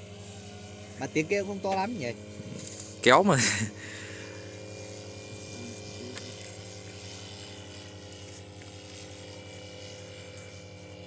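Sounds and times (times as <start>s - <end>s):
model plane propellers droning: 0.0s - 11.0s.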